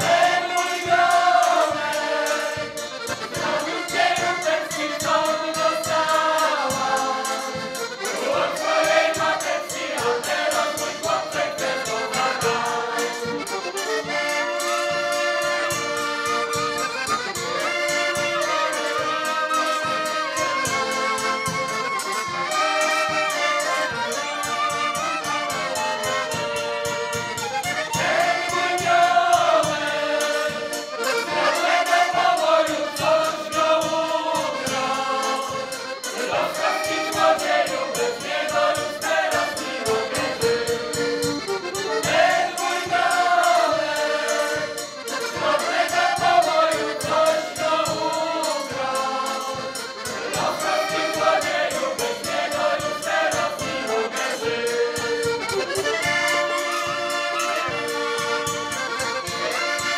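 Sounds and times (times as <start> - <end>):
group singing a folk song: 0.0 - 59.9.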